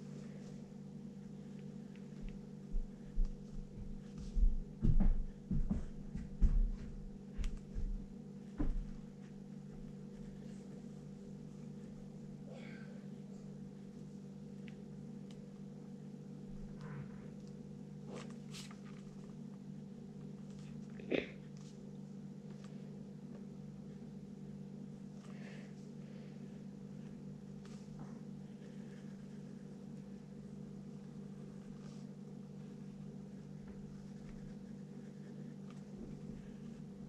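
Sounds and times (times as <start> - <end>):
low electrical hum: 0.0 - 37.0.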